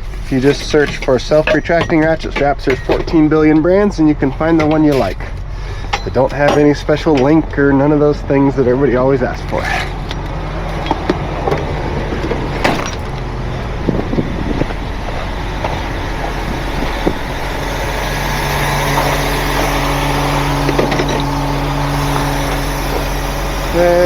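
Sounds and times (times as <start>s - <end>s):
heavy truck engine idling: 0.0s - 24.0s.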